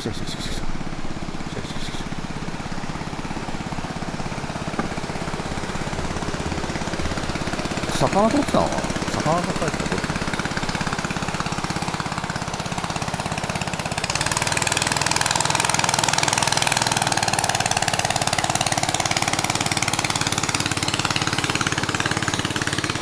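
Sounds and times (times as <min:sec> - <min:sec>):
boat engine passing by: 0:00.0 - 0:23.0.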